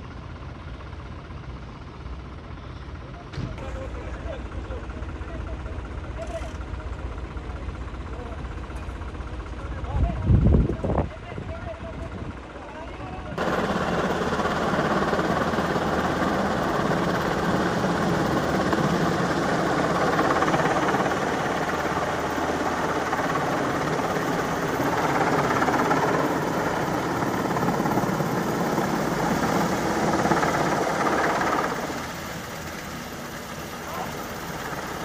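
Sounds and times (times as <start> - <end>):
heavy engines running: 0.0 - 35.0.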